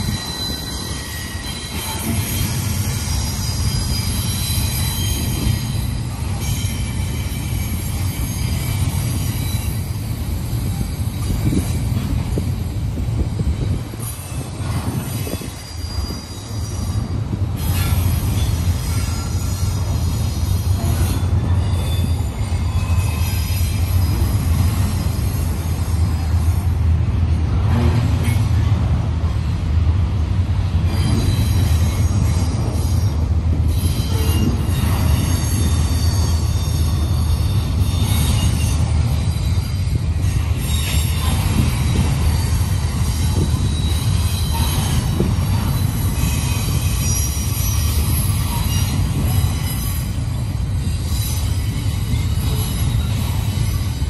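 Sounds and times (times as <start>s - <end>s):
wheel squeals: 0.0s - 12.8s, 13.4s - 26.2s, 30.8s - 54.0s
freight train rumbling past: 0.0s - 54.0s.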